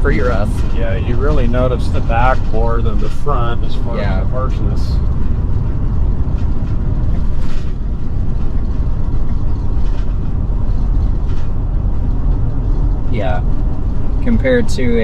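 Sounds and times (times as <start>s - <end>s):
low road rumble inside vehicle: 0.0s - 15.0s.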